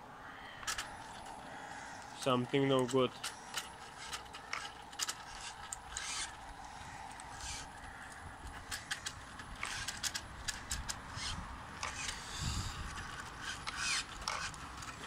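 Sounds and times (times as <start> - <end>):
toy car drivetrain clicking: 2.8 - 15.0.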